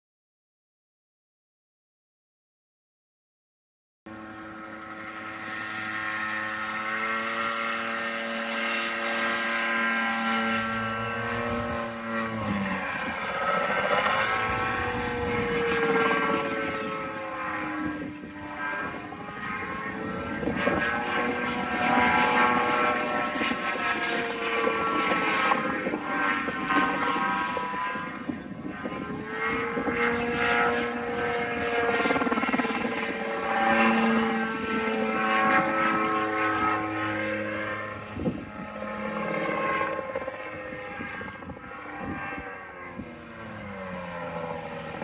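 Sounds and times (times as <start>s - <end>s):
aircraft engine and propeller droning: 4.1s - 45.0s.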